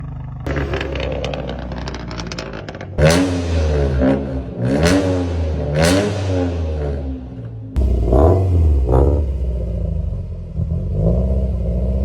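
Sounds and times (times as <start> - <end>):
engine idling and revving: 0.0 - 12.0.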